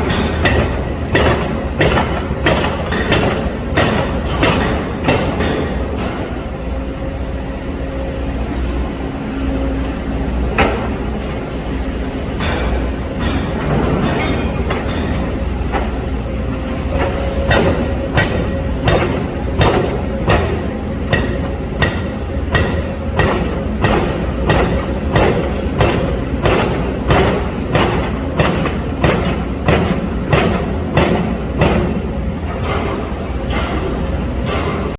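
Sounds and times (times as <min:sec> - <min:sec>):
hydraulic breakers hammering: 0:00.0 - 0:06.7, 0:10.5 - 0:34.9
low drone of machine engines: 0:00.0 - 0:34.9.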